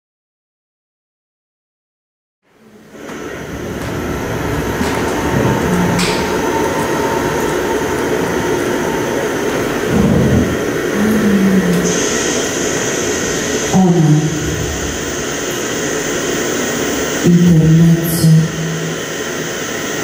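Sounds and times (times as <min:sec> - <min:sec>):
dense steady rumbling: 0:02.7 - 0:19.6.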